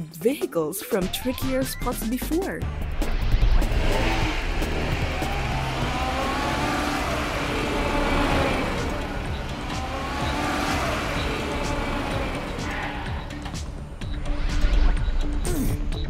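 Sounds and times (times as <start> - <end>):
background music: 0.0 - 16.0
cartoon car engine revving: 1.0 - 16.0.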